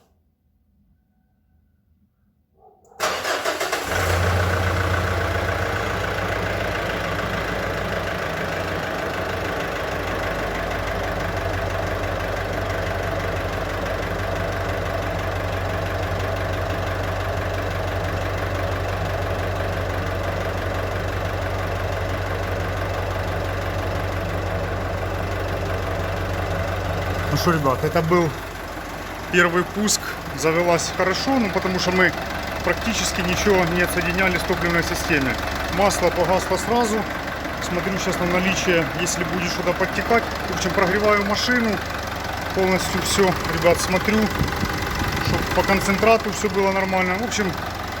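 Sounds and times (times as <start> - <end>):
engine cranking and starting: 2.9 - 21.9, 23.0 - 48.0
engine idling: 3.0 - 48.0.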